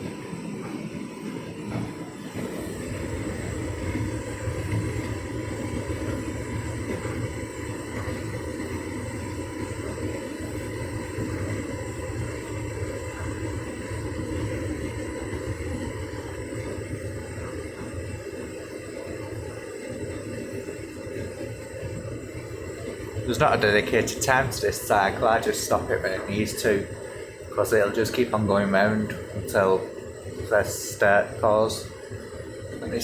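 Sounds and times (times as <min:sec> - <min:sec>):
faint hum: 0:00.0 - 0:33.0
tumble dryer rumble: 0:00.0 - 0:33.0.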